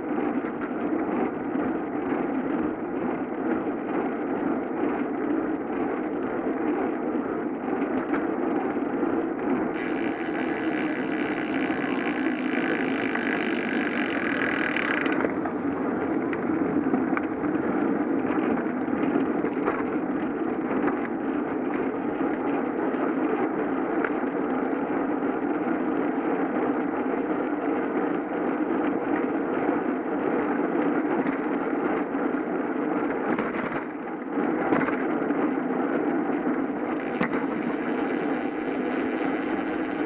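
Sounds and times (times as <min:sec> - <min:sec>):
bicycle road noise: 0:00.0 - 0:40.0.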